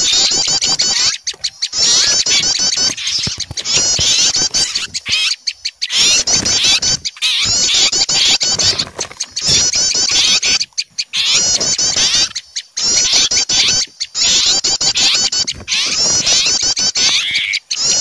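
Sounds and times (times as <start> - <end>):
songbirds alarm-calling: 0.0 - 18.0.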